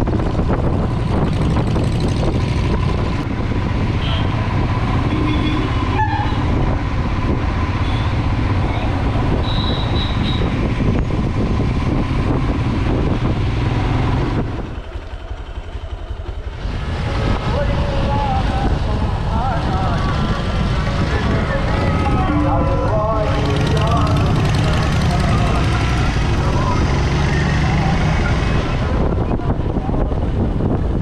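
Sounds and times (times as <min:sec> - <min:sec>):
wind rushing over microphone: 0:00.0 - 0:14.8, 0:16.6 - 0:31.0
motorcycle engine running: 0:00.0 - 0:28.1.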